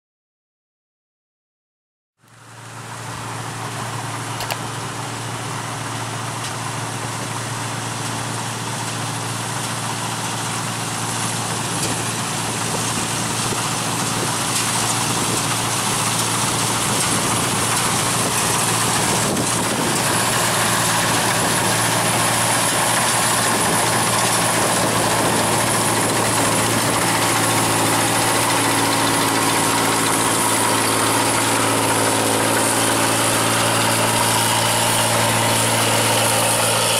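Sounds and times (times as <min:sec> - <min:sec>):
combine harvester running: 0:02.2 - 0:36.9.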